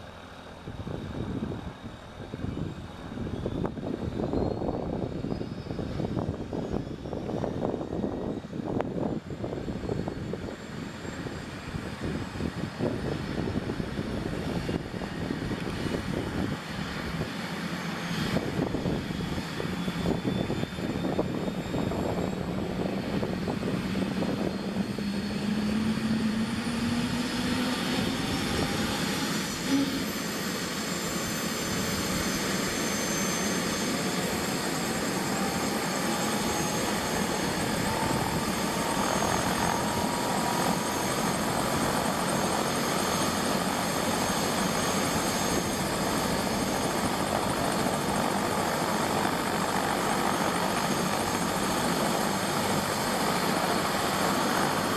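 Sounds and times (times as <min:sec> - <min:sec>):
helicopter turbine whine: 0:00.0 - 0:54.9.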